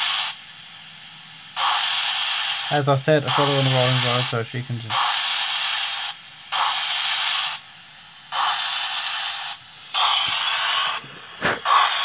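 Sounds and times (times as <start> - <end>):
steam exhaust hisses from speaker: 0.0 - 12.0.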